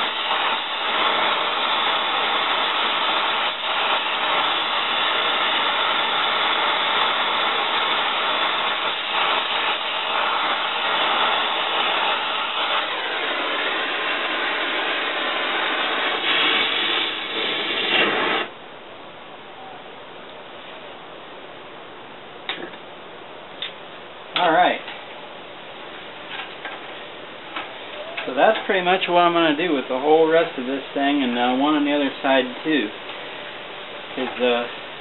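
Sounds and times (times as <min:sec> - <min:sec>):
torch flame hissing: 0:00.0 - 0:18.6, 0:24.4 - 0:35.0.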